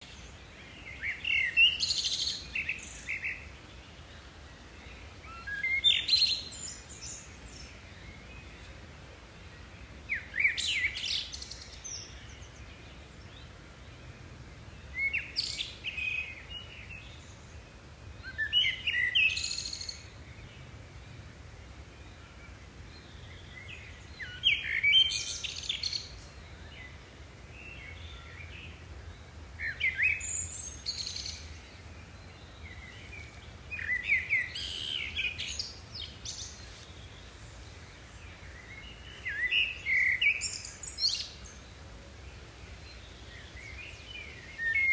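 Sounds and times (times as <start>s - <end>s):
songbird chirps and trills: 0.0s - 44.9s.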